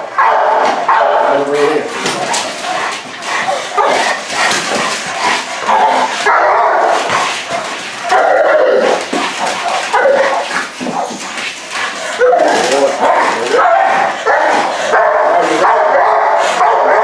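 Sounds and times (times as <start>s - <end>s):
dog barking and whining: 0.0s - 11.2s, 11.9s - 17.0s.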